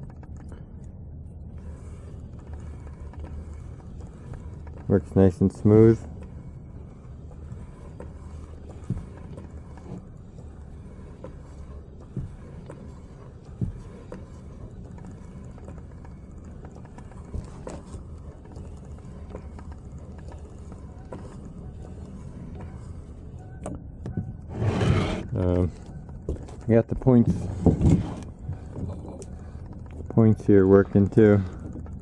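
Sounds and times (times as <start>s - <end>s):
engine gears clicking and knocking: 0.0s - 24.6s, 25.3s - 32.0s.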